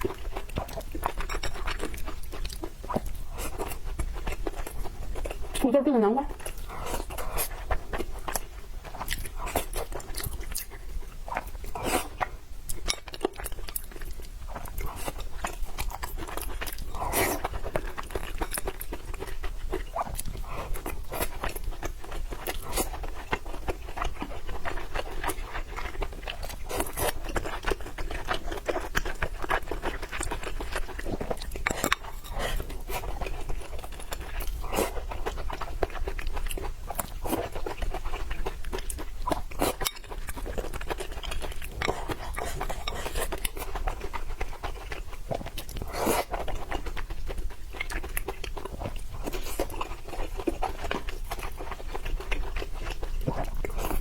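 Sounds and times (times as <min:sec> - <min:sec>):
person chewing food: 0:00.0 - 0:05.7, 0:06.3 - 0:54.0.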